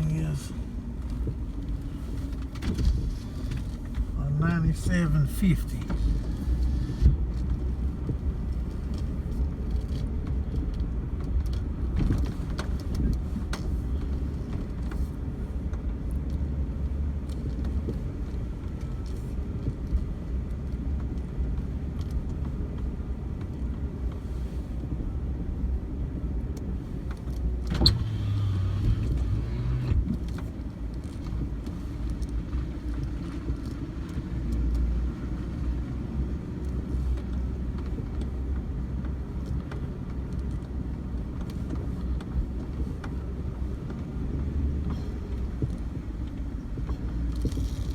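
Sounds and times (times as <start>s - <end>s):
vehicle interior rumble: 0.0s - 47.9s.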